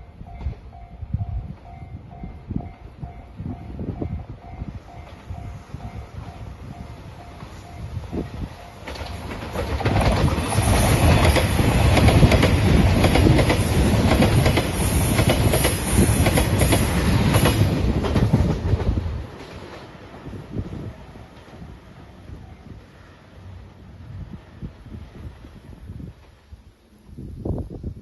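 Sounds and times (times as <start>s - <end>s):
diesel train passing: 0.0s - 27.8s.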